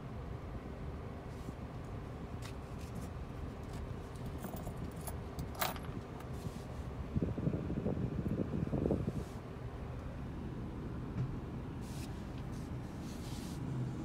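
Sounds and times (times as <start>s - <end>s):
low rumble in car cabin: 0.0s - 14.0s.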